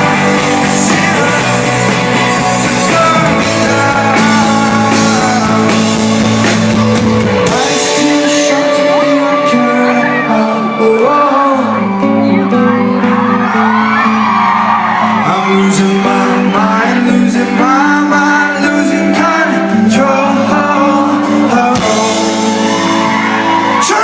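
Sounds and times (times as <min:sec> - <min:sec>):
lead singer singing: 0:00.0 - 0:24.0
rock band playing live: 0:00.0 - 0:24.0.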